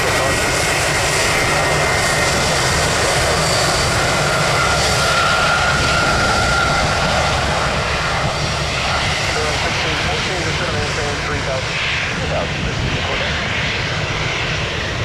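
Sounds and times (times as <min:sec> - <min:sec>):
faint engine whine: 0:00.0 - 0:15.0
jet engines roaring: 0:00.0 - 0:15.0.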